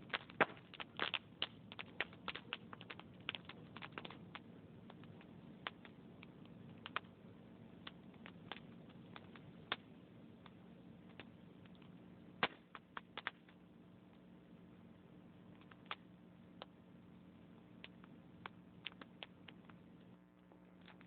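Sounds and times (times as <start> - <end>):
hiss of burning wood: 0.0 - 21.0
log fire crackling: 0.0 - 21.0.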